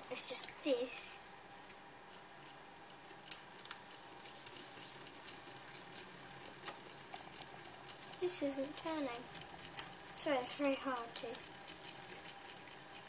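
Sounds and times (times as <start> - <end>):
gears clicking: 0.1 - 13.0
small electric motor whirring: 0.4 - 13.0.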